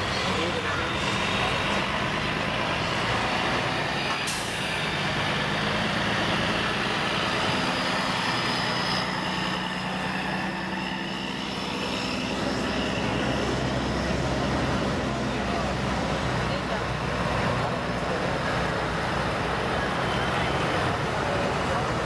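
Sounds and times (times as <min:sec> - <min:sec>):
diesel truck engines at low revs: 0:00.0 - 0:22.0.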